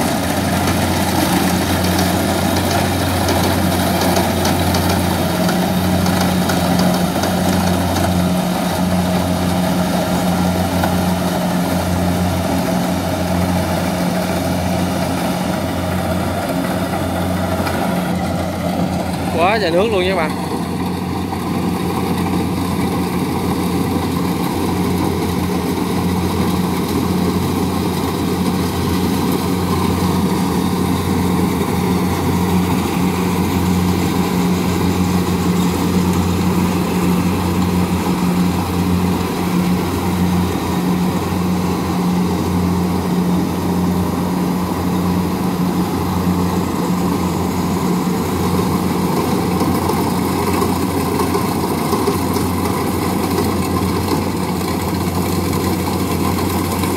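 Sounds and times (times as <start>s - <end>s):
combine harvester engine droning: 0.0s - 56.9s.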